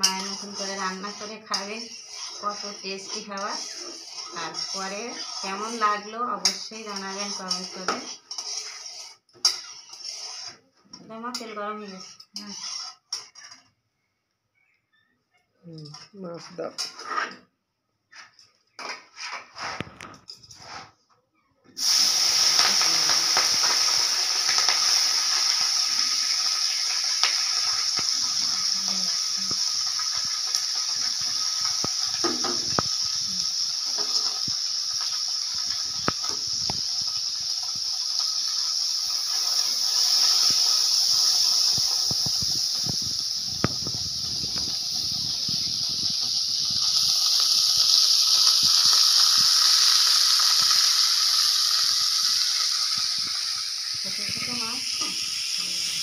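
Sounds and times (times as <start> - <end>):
fish sizzling in hot oil: 0.0 - 13.7, 21.8 - 56.0.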